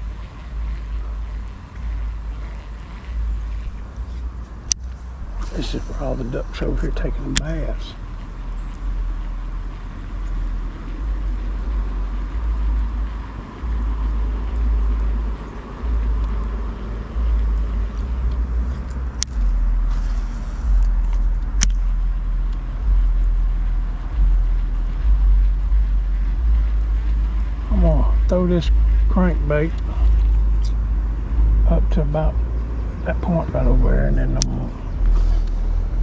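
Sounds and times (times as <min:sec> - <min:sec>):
sharp clicks: 0:00.0 - 0:05.6, 0:06.6 - 0:31.5, 0:34.2 - 0:36.0.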